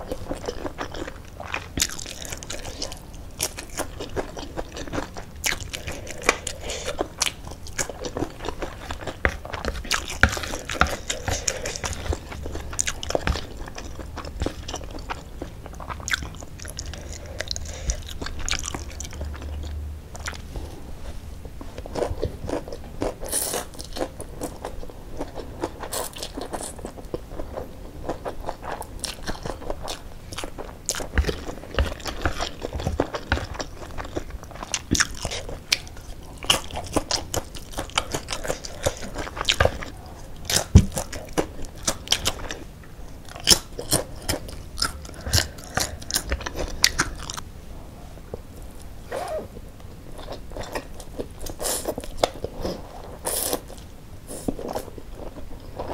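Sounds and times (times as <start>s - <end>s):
person chewing and slurping noodles: 0.0s - 47.4s, 50.1s - 55.9s.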